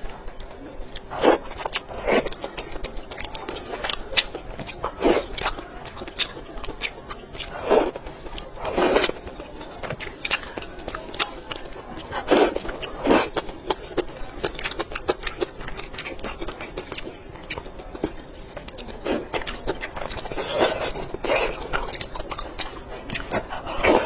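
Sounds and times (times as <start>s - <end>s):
person chewing: 0.8s - 24.0s.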